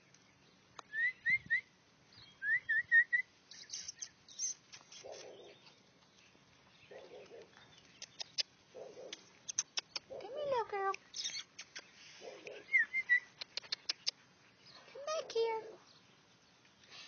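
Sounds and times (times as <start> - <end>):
bird chirping: 0.0 - 10.2, 11.0 - 15.2.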